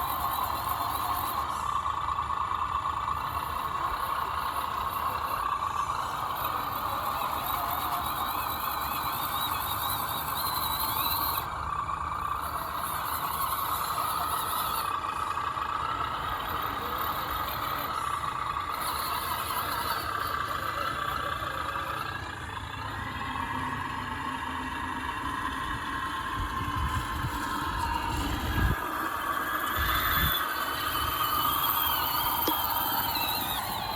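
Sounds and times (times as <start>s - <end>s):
rc car motor whining: 0.0s - 33.9s.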